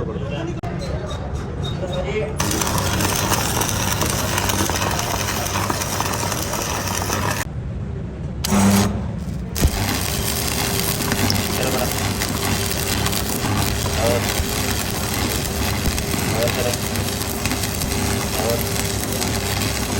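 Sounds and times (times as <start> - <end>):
metal clattering and crackling: 2.4 - 7.5, 8.4 - 19.9.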